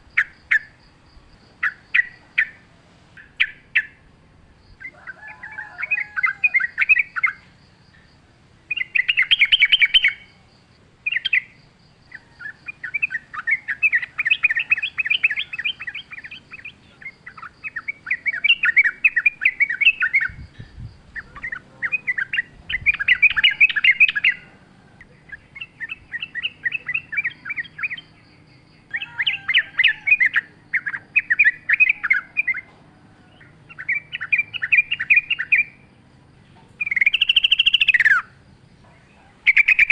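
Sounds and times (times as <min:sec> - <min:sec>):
bird chattering song: 0:00.0 - 0:04.1, 0:04.7 - 0:39.9.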